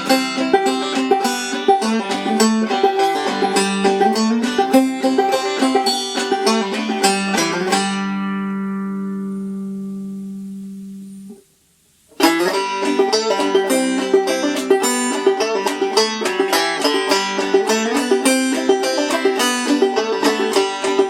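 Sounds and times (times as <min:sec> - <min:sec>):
banjo plucked notes: 0:00.0 - 0:11.5, 0:12.1 - 0:21.0.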